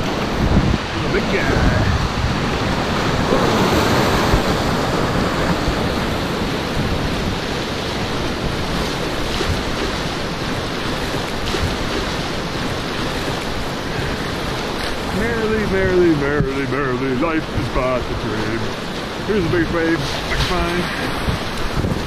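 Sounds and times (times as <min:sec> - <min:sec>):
rapids rushing and splashing: 0:00.0 - 0:22.0.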